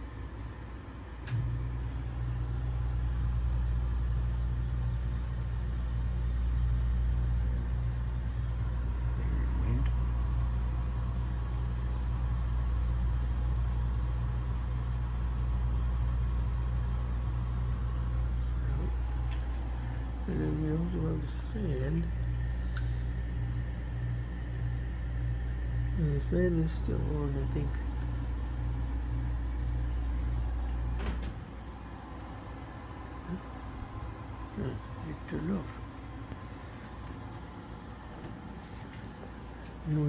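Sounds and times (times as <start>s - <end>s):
compressor humming: 0.0s - 40.0s.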